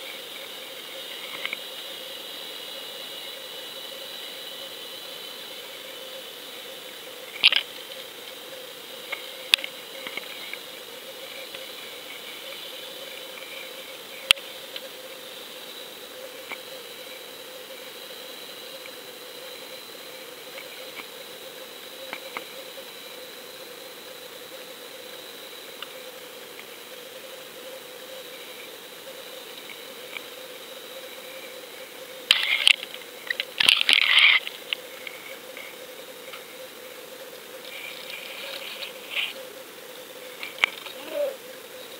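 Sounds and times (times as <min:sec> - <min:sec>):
faint hum: 0:00.0 - 0:41.9
steady hiss: 0:00.0 - 0:41.9.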